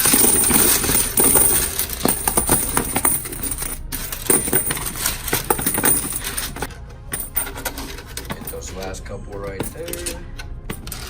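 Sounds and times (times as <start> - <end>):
coins clinking: 0.0 - 8.9, 9.6 - 11.0.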